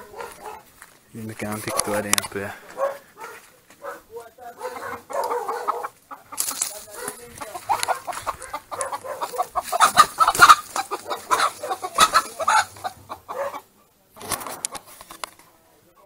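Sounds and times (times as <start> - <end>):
chickens clucking: 0.0 - 15.2.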